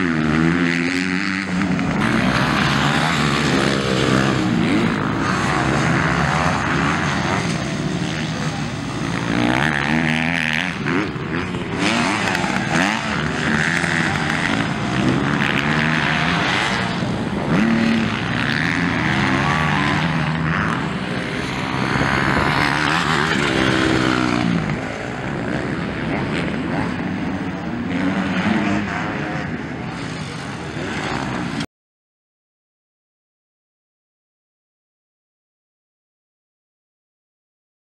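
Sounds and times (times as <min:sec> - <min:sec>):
motocross bike engines revving: 0:00.0 - 0:31.7.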